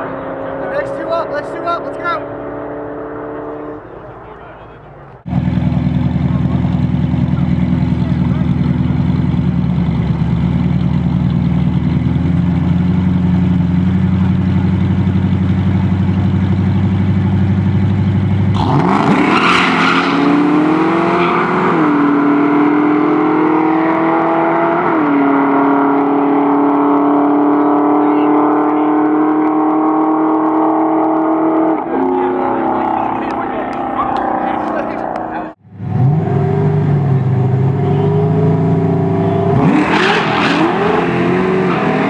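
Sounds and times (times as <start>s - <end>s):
car engines accelerating hard: 0.0s - 42.0s.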